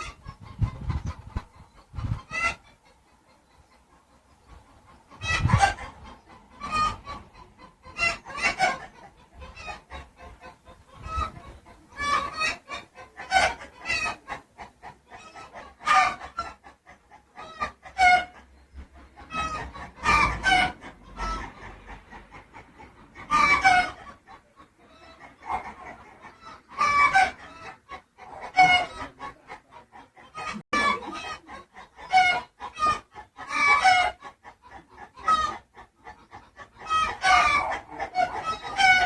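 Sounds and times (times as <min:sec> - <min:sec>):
chickens clucking and calling: 0:00.0 - 0:39.0.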